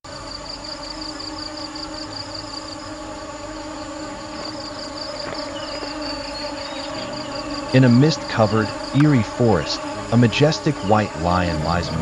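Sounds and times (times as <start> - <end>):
bees buzzing: 0.3 - 12.0.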